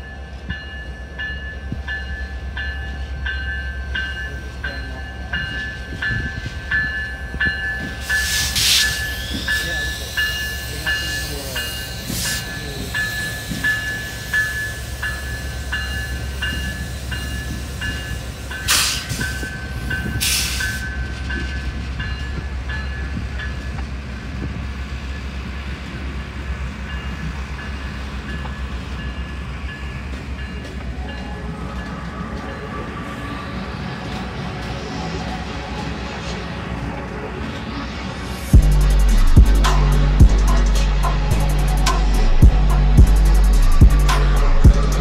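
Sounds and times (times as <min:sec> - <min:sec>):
diesel locomotive rumble: 0:00.0 - 0:45.0
freight cars running on rails: 0:00.0 - 0:45.0.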